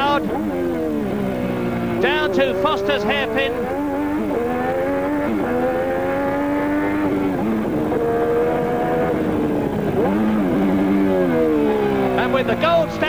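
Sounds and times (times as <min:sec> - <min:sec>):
racing engine at full throttle: 0:00.0 - 0:13.0.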